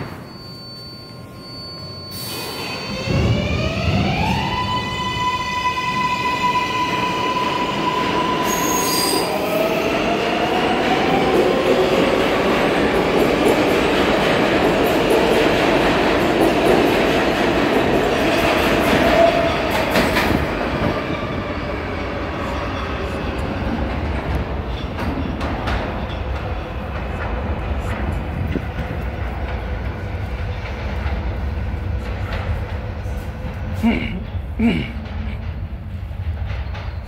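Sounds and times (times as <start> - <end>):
subway train running past: 0.0 - 37.0.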